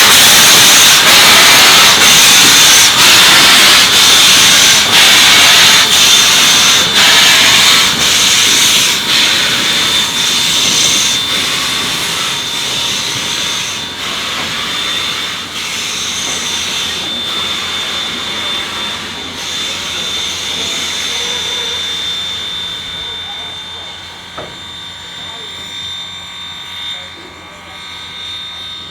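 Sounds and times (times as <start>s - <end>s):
steam hissing: 0.0s - 26.2s
steam locomotive exhaust chuffs: 0.0s - 28.9s.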